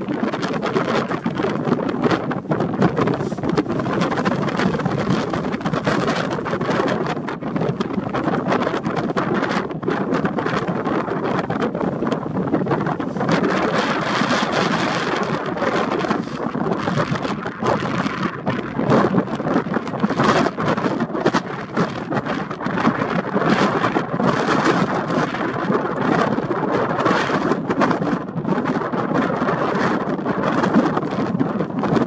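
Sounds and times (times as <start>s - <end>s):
gusty wind buffeting microphone: 0.0s - 32.0s.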